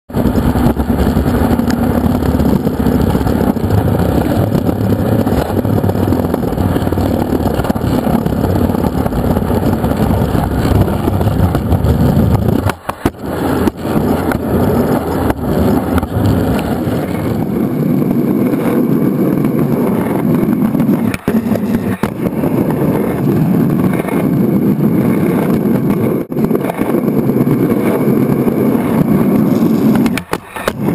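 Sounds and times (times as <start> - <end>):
skateboard wheels rolling on pavement: 0.1 - 30.9.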